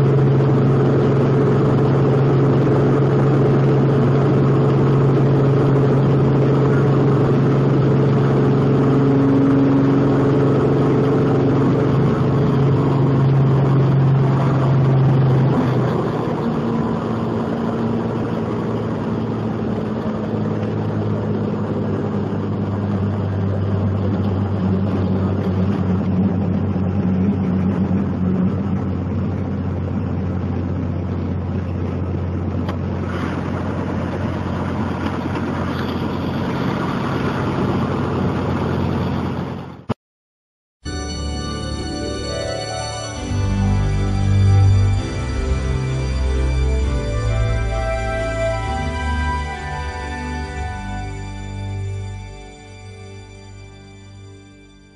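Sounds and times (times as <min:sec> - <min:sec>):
helicopter engine and rotor drone: 0:00.0 - 0:39.9, 0:40.9 - 0:54.9.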